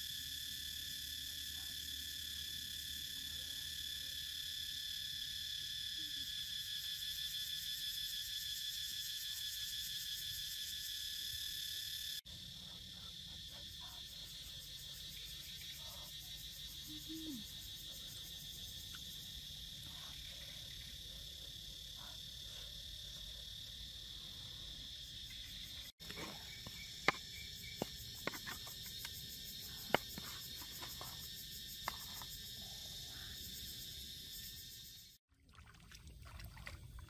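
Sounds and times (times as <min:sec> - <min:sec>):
insects trilling: 0:00.0 - 0:35.2.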